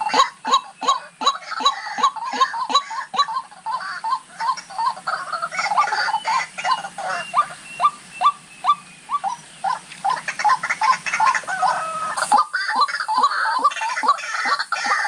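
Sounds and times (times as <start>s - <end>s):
waterhens calling: 0.0s - 15.0s.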